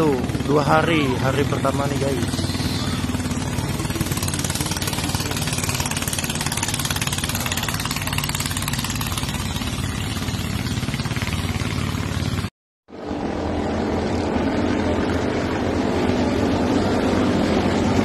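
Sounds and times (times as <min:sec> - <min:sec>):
boat engine running flat out: 0:00.0 - 0:18.0.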